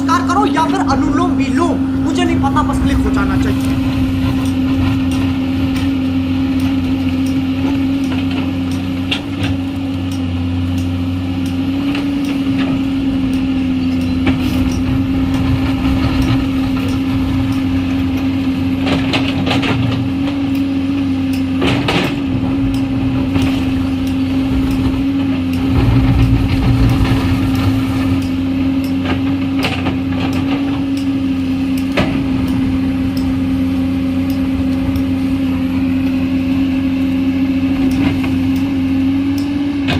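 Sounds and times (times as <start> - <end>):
excavator engine droning: 0.0 - 39.9.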